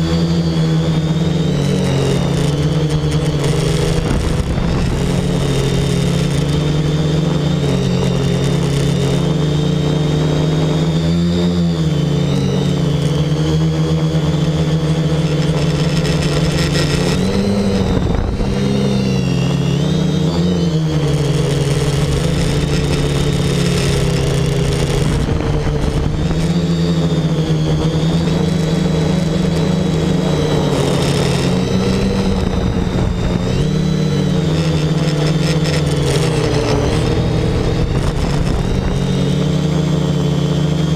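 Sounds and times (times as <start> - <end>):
quadcopter motors buzzing: 0.0 - 40.9.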